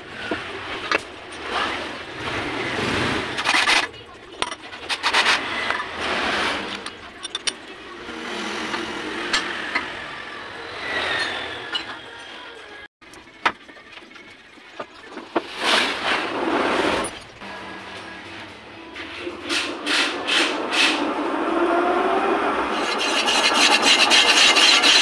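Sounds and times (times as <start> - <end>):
workshop background noise: 0.0 - 25.0.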